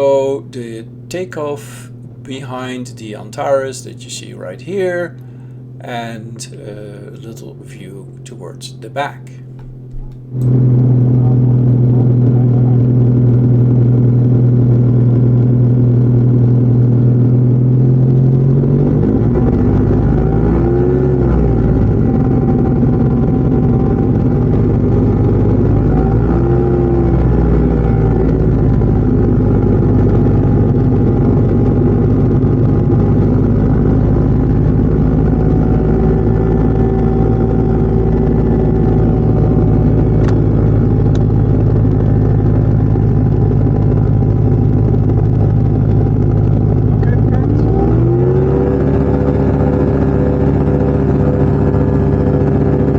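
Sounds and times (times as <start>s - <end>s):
glider engine drone: 0.0s - 52.9s.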